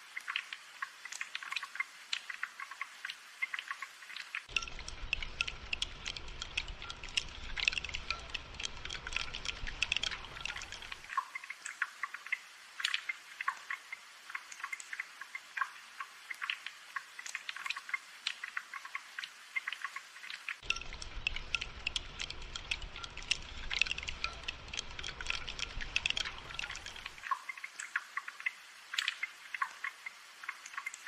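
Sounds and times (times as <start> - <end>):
rain drops pattering: 0.0 - 31.0.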